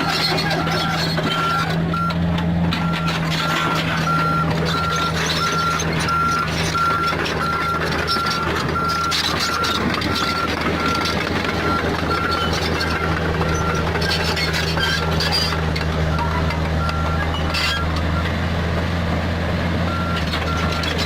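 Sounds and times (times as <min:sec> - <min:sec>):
excavator diesel engine running: 0:00.0 - 0:21.0
machinery clanking and scraping: 0:00.0 - 0:21.0.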